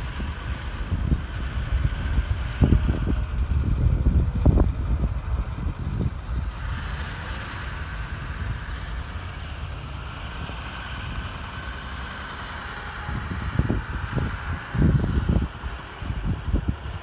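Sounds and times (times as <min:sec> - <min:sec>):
truck engine driving away: 0:00.0 - 0:17.0
wind gusting on microphone: 0:00.0 - 0:17.0.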